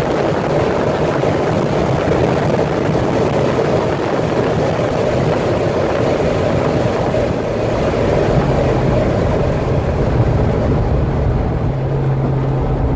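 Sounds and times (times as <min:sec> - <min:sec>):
car engine running low: 0:00.0 - 0:12.9
road and wind noise: 0:00.0 - 0:12.9.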